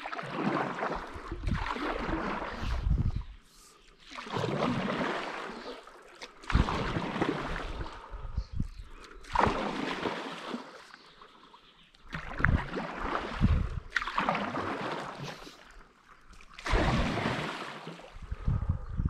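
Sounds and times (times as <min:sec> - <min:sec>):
paddle splashing in water: 0:00.0 - 0:03.0, 0:03.9 - 0:08.1, 0:09.2 - 0:18.2.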